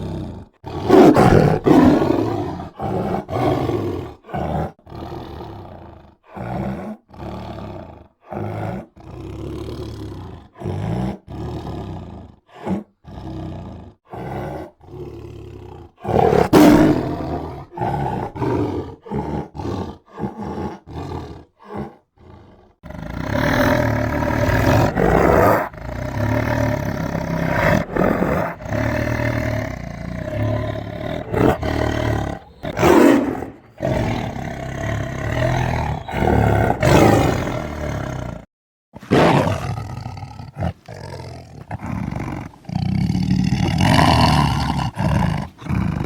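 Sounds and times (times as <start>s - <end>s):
tiger growling: 0.0s - 46.0s
tiger roaring: 0.0s - 46.0s.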